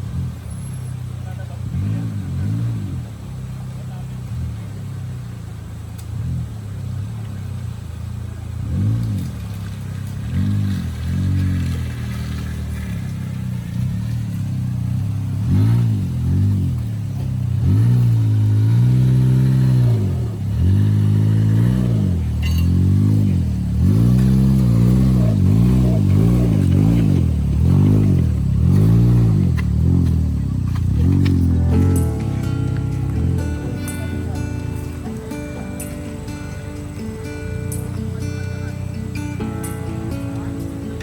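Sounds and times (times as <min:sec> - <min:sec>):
off-road vehicle engine revving: 0:00.0 - 0:41.0.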